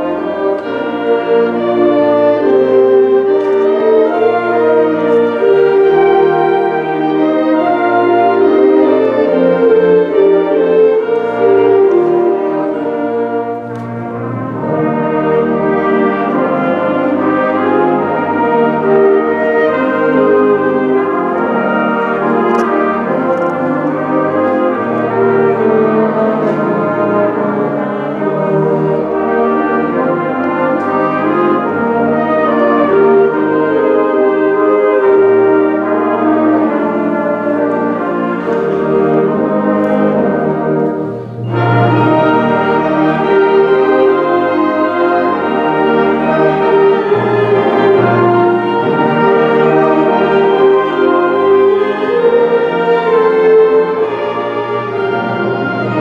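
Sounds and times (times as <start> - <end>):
french horns and trombones: 0.0 - 56.0.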